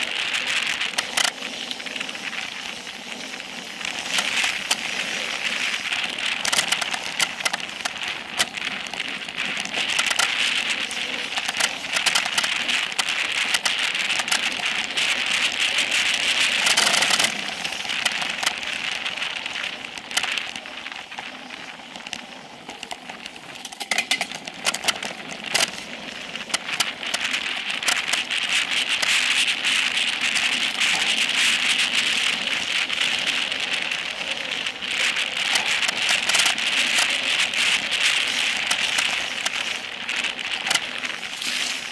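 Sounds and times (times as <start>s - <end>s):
bike clicks and rattles: 0.0s - 41.9s
bike tyres on dirt and gravel: 0.0s - 41.9s.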